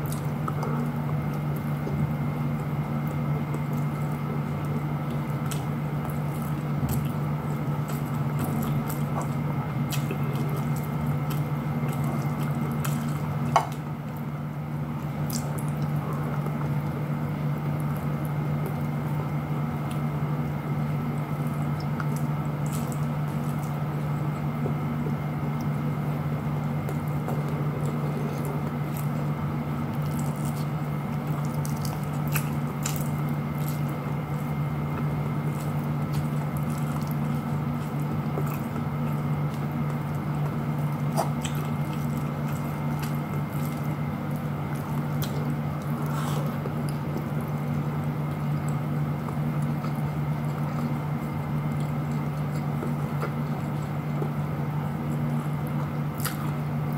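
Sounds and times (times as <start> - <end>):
steady low hum: 0.0 - 56.9
wet squishy chewing: 0.0 - 56.9.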